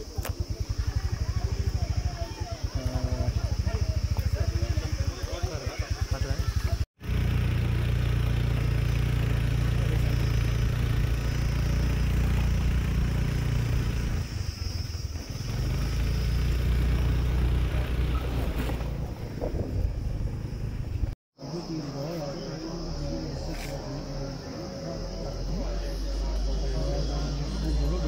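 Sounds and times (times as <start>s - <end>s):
vehicle rumble: 0.0s - 28.0s.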